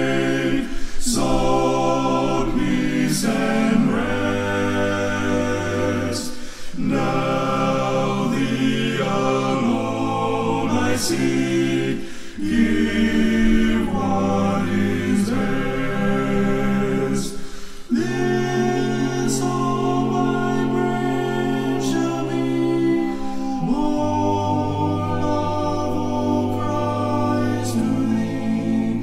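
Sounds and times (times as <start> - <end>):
men singing a hymn a cappella: 0.0 - 29.0.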